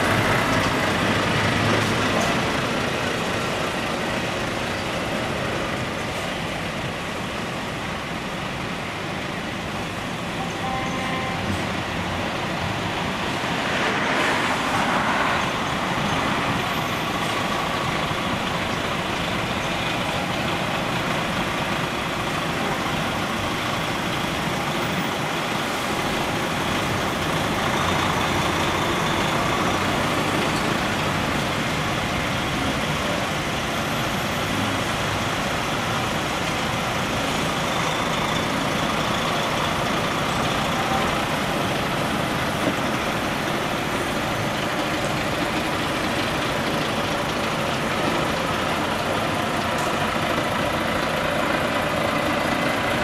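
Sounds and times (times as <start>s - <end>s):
diesel lorries idling in traffic: 0.0s - 53.0s.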